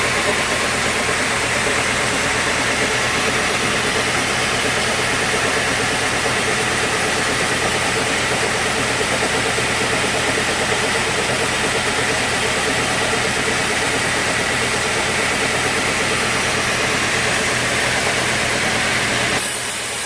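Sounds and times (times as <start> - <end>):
sawmill machinery drone: 0.0 - 20.0.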